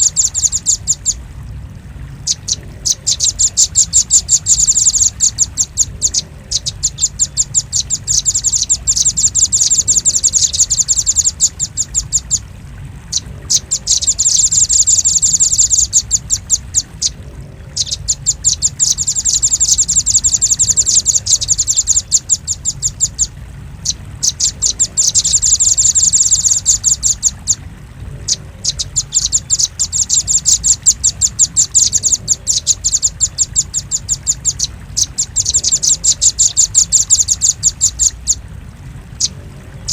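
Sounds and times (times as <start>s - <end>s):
bird chipping calls: 0.0s - 1.2s, 2.2s - 12.5s, 13.1s - 27.6s, 28.2s - 38.4s.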